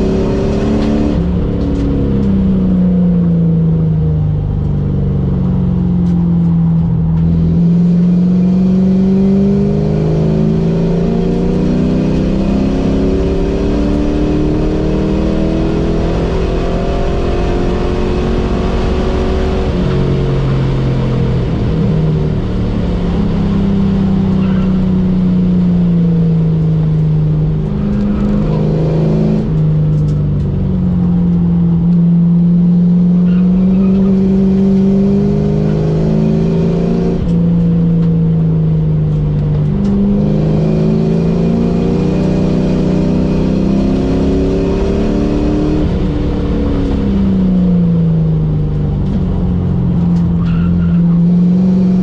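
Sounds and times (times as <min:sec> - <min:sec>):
car engine running hard: 0:00.0 - 0:52.0
road and wind noise: 0:00.0 - 0:52.0.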